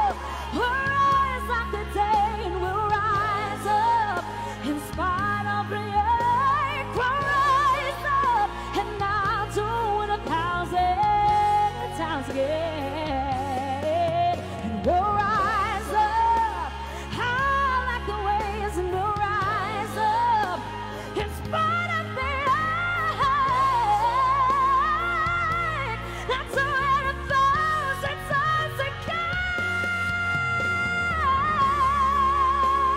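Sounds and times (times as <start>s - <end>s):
woman singing pop vocals: 0.0s - 32.9s.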